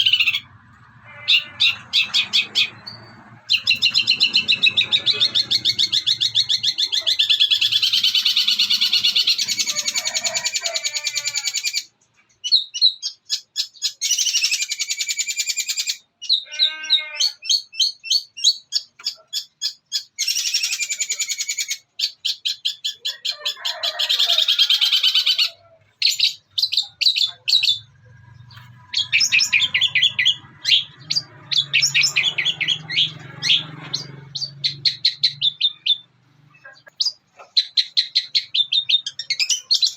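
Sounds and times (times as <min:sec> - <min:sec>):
shrike chattering song: 0:00.0 - 0:23.3, 0:24.5 - 0:39.9.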